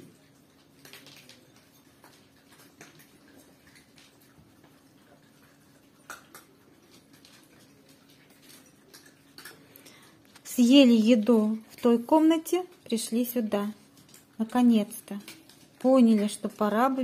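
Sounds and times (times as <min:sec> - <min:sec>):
dogs crunching kibble: 0:00.0 - 0:17.0
faint steady hum: 0:00.0 - 0:17.0.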